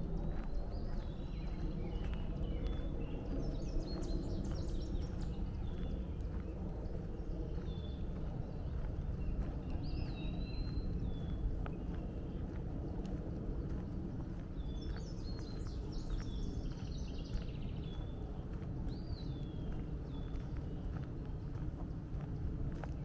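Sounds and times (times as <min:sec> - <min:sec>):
footsteps on a trail: 0:00.0 - 0:23.0.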